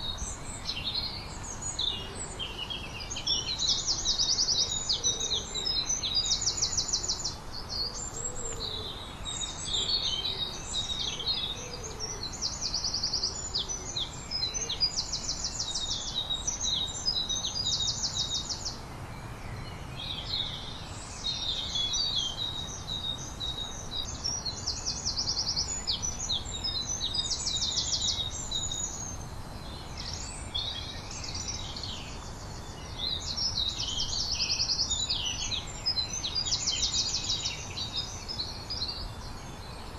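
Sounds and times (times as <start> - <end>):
birds chirping: 0.0 - 39.9
faint low bird calls: 0.0 - 39.9.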